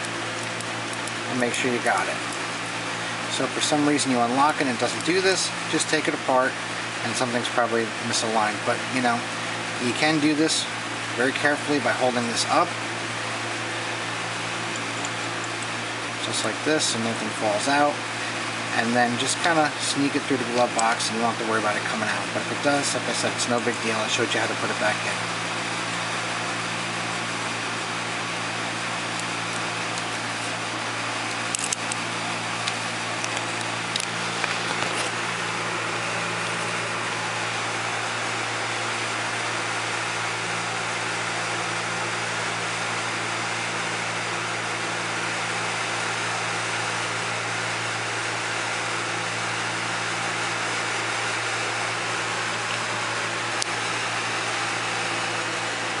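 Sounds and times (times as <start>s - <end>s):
mechanical hum with low drone: 0.0s - 56.0s.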